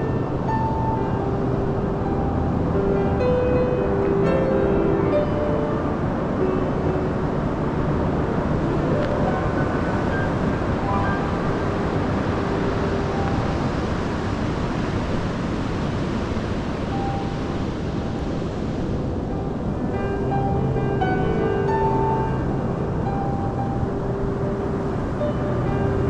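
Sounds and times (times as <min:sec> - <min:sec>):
faint musical notes: 0:00.0 - 0:26.0
surf washing on beach: 0:00.0 - 0:26.0
wind on microphone: 0:00.0 - 0:26.0.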